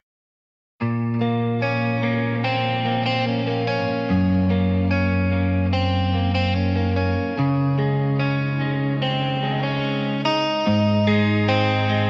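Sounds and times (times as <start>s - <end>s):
guitar picking slow notes: 0.8s - 12.0s.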